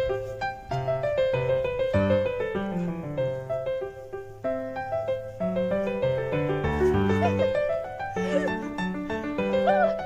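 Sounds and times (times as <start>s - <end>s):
piano melody: 0.0s - 10.0s.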